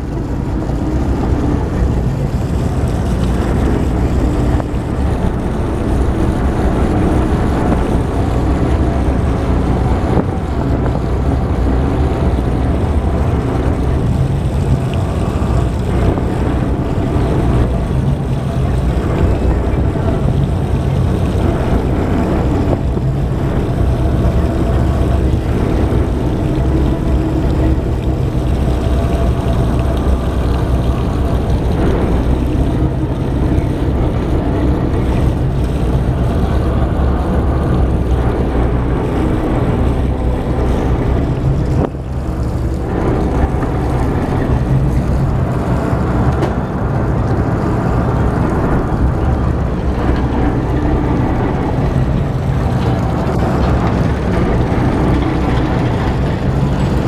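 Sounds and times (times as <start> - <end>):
ferry engines droning: 0.0 - 57.0
rushing water: 0.0 - 57.0
wind: 0.0 - 57.0.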